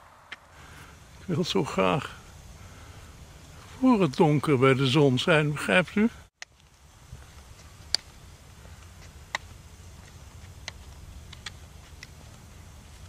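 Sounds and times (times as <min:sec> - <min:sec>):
low open-air rumble: 0:00.0 - 0:13.0.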